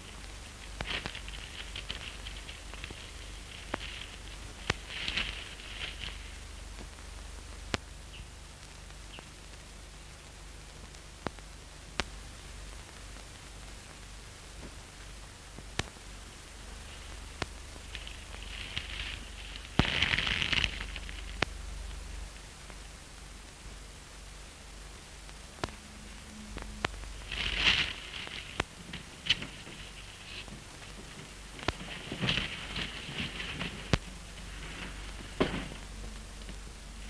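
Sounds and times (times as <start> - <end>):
film soundtrack hiss and crackle: 0.0 - 37.0.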